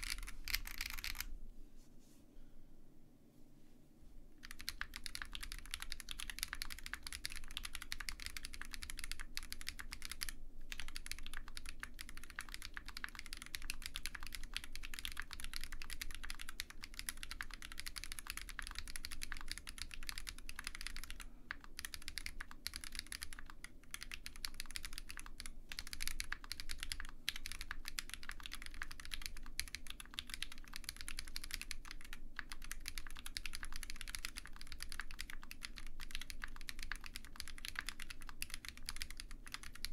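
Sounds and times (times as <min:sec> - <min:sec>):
mechanical keyboard typing: 0:00.0 - 0:01.3, 0:04.4 - 0:39.9.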